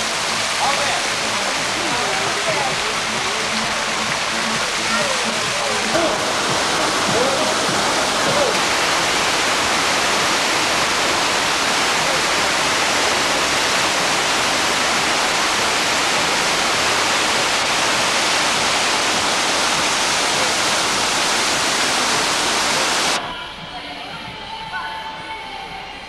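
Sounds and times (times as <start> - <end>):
water rushing over weir: 0.0 - 23.9.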